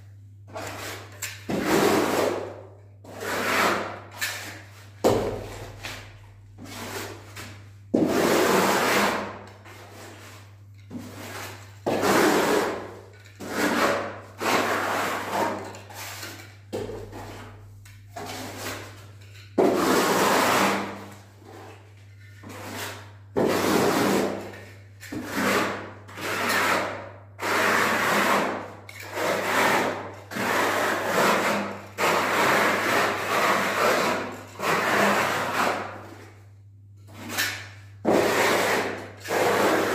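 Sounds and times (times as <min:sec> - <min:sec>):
plastering float scraping plaster: 0:00.5 - 0:39.9.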